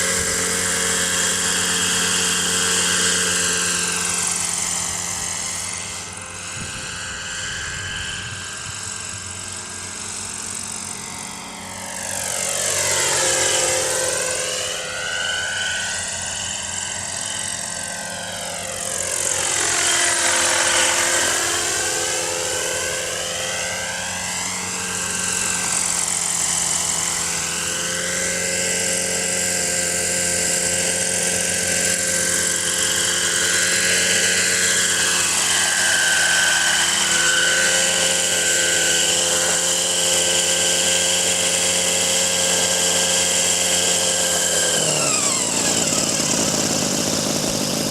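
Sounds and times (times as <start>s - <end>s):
rc helicopter engine buzzing: 0.0s - 47.9s.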